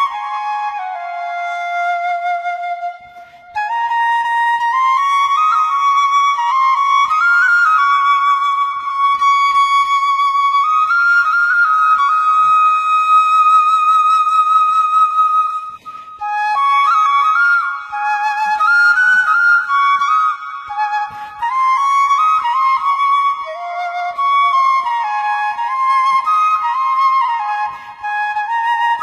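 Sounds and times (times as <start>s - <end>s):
bamboo flute melody: 0.0s - 29.0s.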